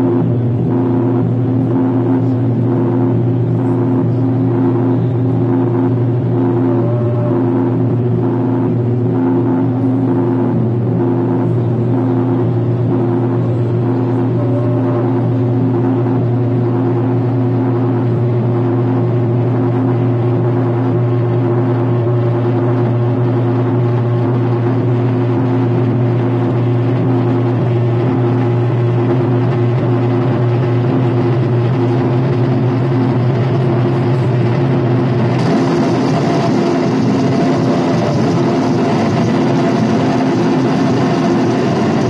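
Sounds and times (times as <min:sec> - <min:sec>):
low hum with held tones: 0:00.0 - 0:42.0
rough noise wash: 0:00.0 - 0:42.0.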